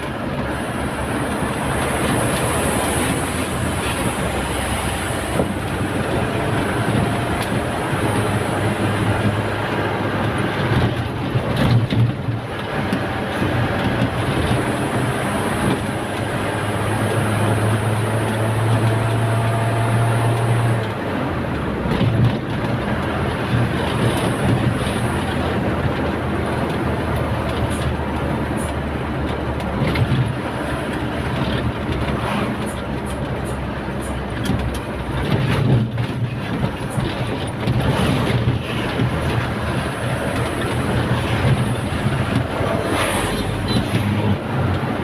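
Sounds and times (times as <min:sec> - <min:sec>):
road and tyre noise: 0:00.0 - 0:45.0
truck engine running: 0:00.0 - 0:45.0.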